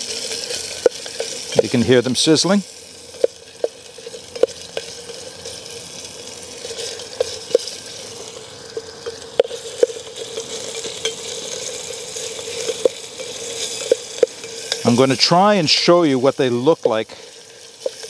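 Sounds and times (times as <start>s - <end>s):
sausages sizzling in oil: 0.0s - 18.0s.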